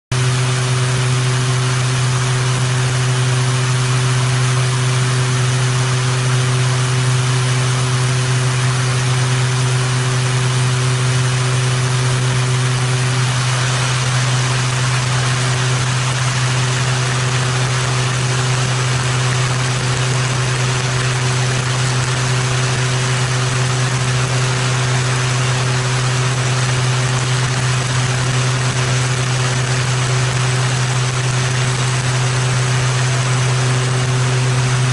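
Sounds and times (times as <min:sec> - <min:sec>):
low propeller drone: 0:00.1 - 0:34.9
wind noise on camera: 0:00.4 - 0:34.9.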